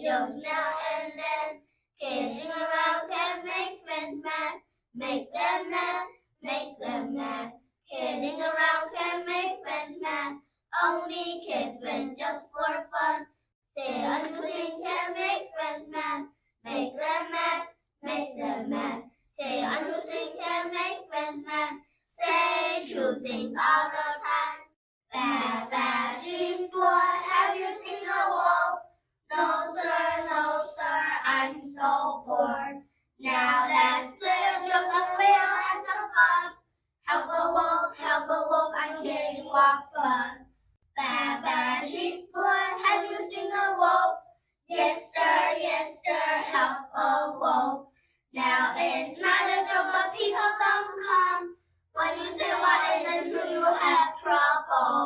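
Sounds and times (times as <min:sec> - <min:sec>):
children singing together: 0:00.0 - 0:13.2, 0:13.8 - 0:36.5, 0:37.1 - 0:40.3, 0:41.0 - 0:47.8, 0:48.4 - 0:51.4, 0:52.0 - 0:55.0.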